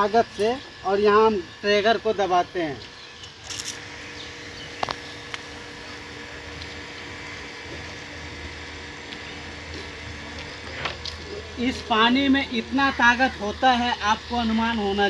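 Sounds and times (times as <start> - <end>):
water pump motor humming: 0.0 - 15.0.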